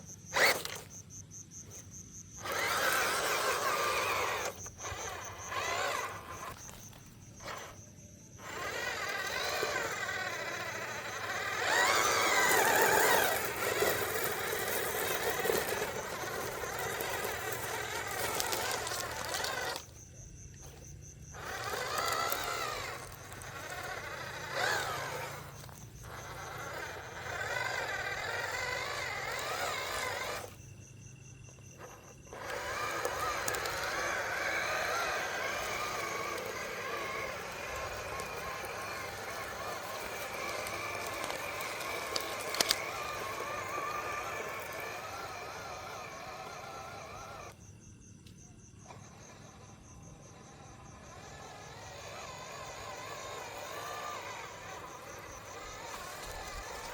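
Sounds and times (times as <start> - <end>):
toy electric motor whining: 0.0 - 7.8, 8.4 - 30.9, 31.5 - 47.6, 48.8 - 56.9.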